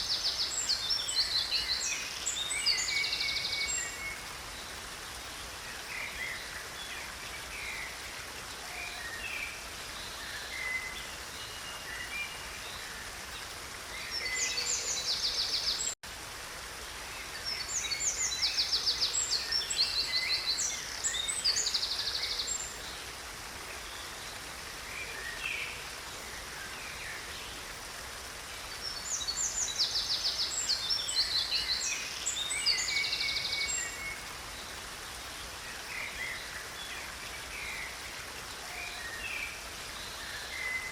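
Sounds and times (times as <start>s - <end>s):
songbirds singing: 0.0s - 40.9s
stream running: 0.0s - 40.9s.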